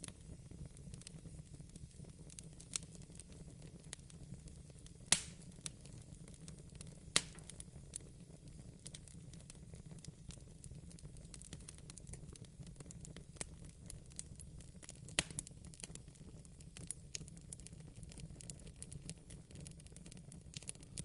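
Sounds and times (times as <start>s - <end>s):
fire popping loudly: 0.0s - 21.0s
wood fire crackling: 0.0s - 21.0s.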